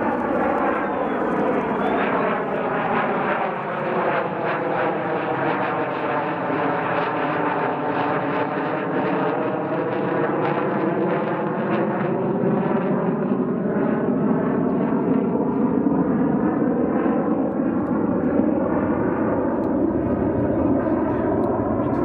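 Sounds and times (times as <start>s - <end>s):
jet engines passing overhead: 0.0s - 22.0s.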